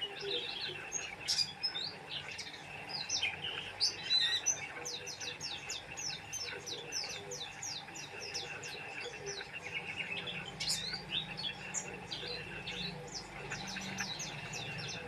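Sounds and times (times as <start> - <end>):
bird chirping rapidly: 0.0 - 15.0.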